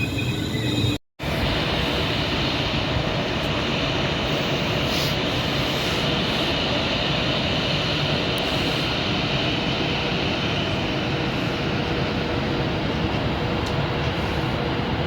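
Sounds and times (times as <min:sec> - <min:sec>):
train running noise inside carriage: 0:00.0 - 0:15.0.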